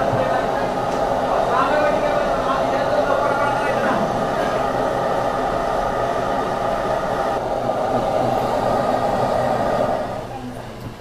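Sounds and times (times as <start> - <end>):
loud mechanical roar: 0.0 - 10.3.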